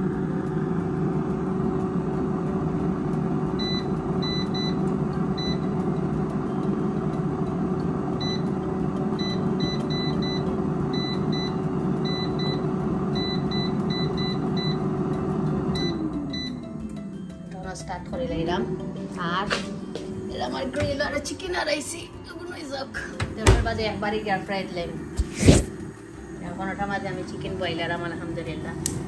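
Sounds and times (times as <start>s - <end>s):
air fryer fan hum: 0.0s - 29.0s.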